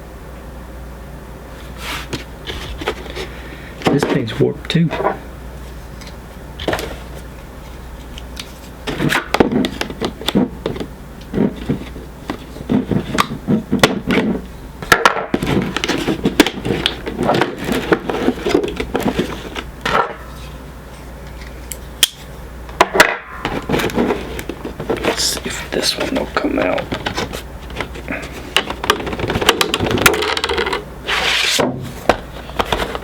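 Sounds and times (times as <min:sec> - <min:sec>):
plastic and cardboard rustling: 0:01.6 - 0:21.6, 0:22.9 - 0:33.0.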